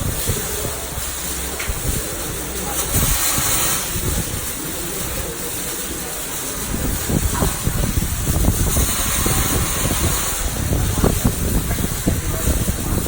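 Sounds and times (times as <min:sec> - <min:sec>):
arc welding hiss and crackle: 0:00.0 - 0:13.0.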